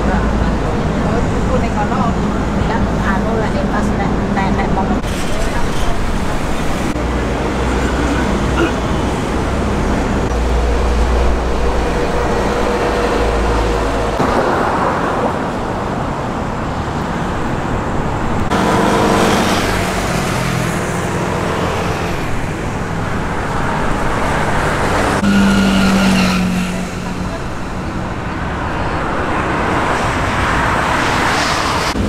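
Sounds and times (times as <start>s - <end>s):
road traffic passing: 0.0s - 32.0s.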